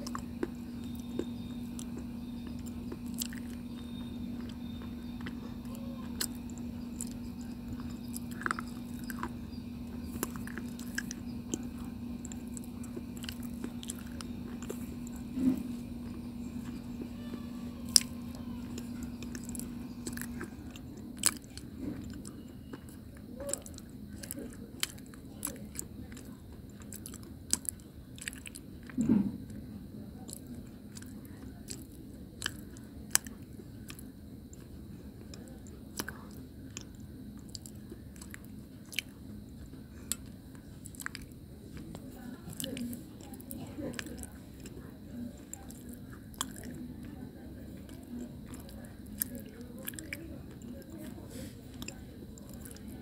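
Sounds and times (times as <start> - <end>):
chewing crunchy stone: 0.0 - 29.6, 30.2 - 53.0
steady low hum: 0.0 - 53.0.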